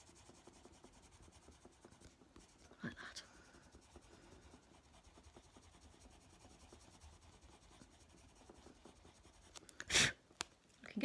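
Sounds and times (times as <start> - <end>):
pencil scratching on paper: 0.0 - 9.8.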